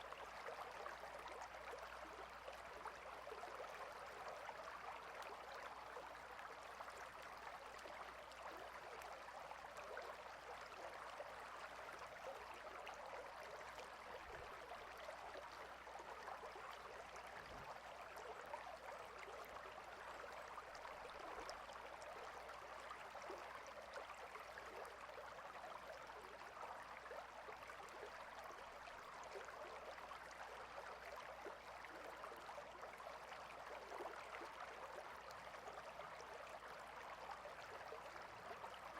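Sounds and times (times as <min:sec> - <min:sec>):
water stream babbling: 0:00.0 - 0:38.9.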